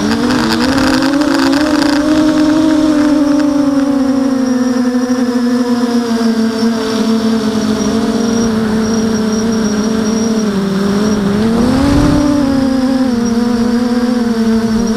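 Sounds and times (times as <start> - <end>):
drone motors whining: 0.0 - 14.9.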